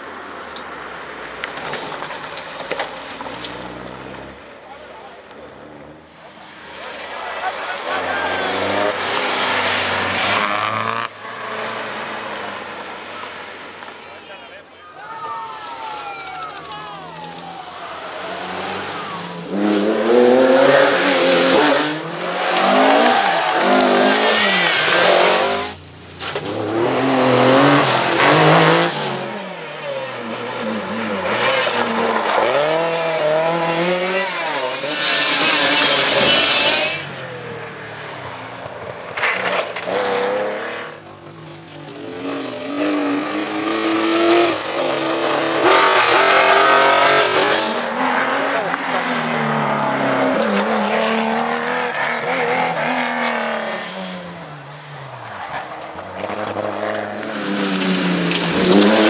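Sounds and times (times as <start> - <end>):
rally cars passing at speed: 0.0 - 59.0.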